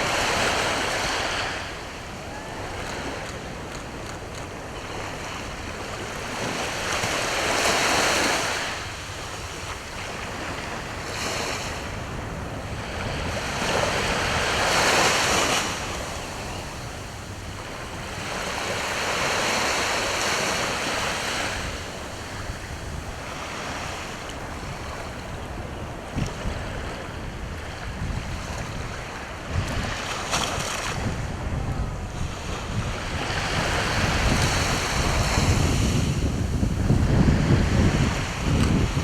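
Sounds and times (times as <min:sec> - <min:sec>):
sea waves washing onto shore: 0:00.0 - 0:39.0
wind buffeting microphone: 0:00.0 - 0:39.0.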